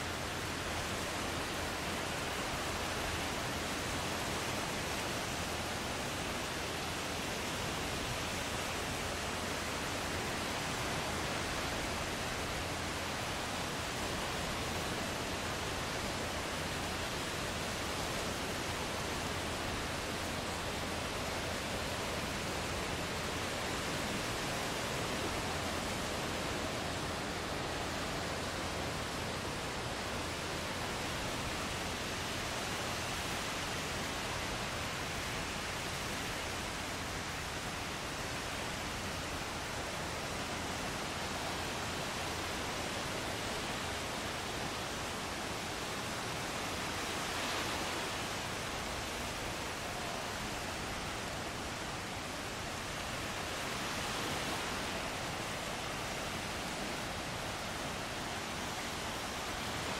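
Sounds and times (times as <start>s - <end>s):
ocean surf rushing: 0.0s - 59.9s.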